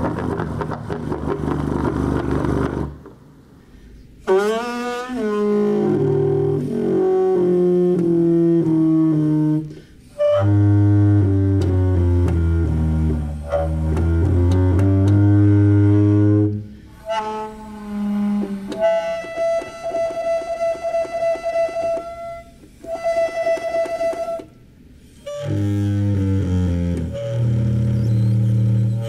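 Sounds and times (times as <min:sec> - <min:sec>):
low brass horn notes: 0:04.2 - 0:29.0.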